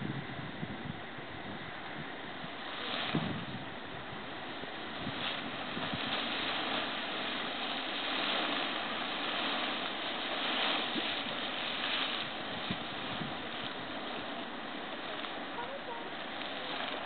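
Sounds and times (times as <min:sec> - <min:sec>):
geyser hissing water and steam: 0:01.2 - 0:17.0.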